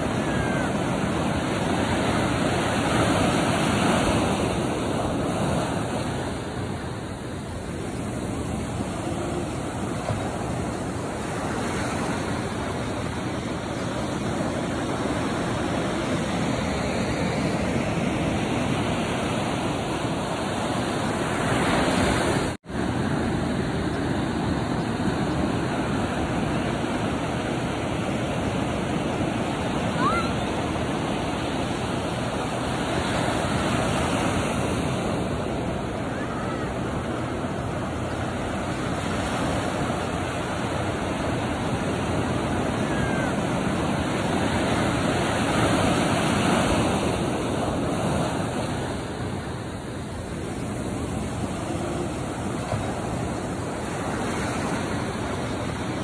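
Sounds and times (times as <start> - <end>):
surf washing over sand: 0.0 - 56.0.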